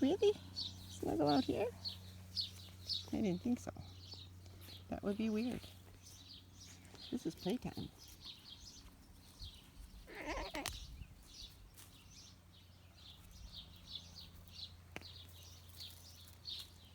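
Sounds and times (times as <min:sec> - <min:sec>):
low steady hum: 0:00.0 - 0:16.9
small birds chirping: 0:00.0 - 0:16.9.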